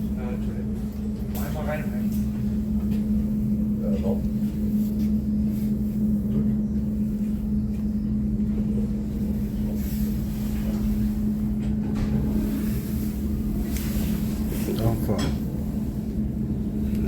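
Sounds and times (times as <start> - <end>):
constant hum: 0.0 - 17.0
train carriage rumble: 0.0 - 17.0.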